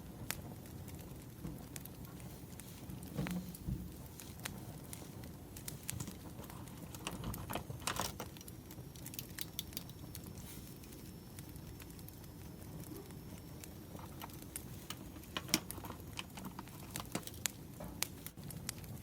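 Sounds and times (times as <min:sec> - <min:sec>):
low rumble of burning logs: 0:00.0 - 0:19.0
wood fire crackling: 0:00.0 - 0:19.0.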